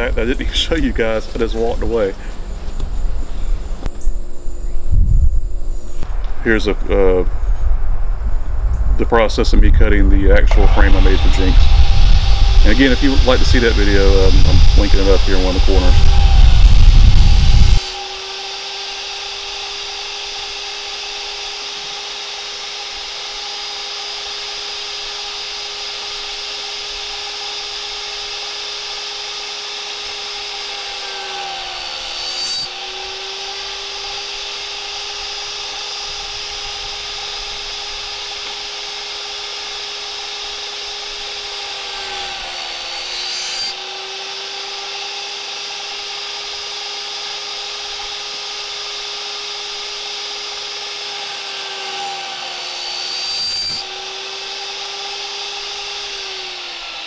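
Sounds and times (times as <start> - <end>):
table saw cutting wood: 0.0 - 2.2, 9.9 - 57.0.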